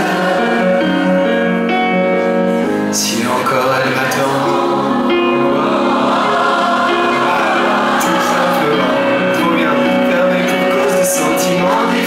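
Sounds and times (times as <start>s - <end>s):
crowd singing in unison: 0.0s - 1.6s, 3.3s - 12.0s
piano accompaniment: 0.0s - 12.0s.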